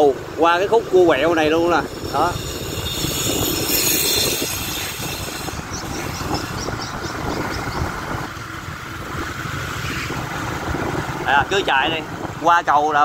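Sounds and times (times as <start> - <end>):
motorcycle engine and road noise: 0.0 - 13.0
wind rushing over microphone: 0.7 - 13.0.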